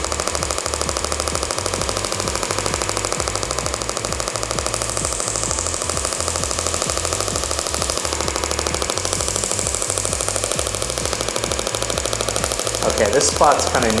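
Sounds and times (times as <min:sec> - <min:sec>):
therapy device clicking pulses: 0:00.0 - 0:14.0.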